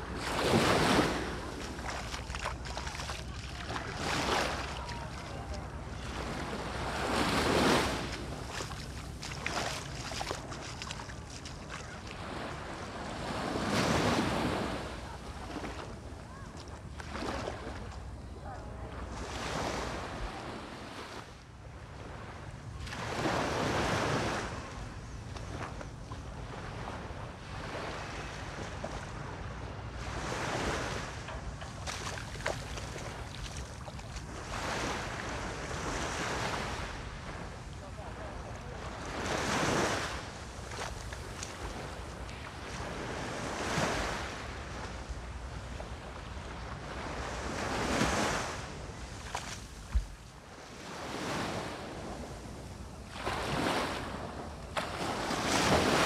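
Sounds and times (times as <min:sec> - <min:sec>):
surf washing on sand: 0:00.0 - 0:21.3, 0:26.5 - 0:56.0
small waves breaking on beach: 0:00.0 - 0:56.0.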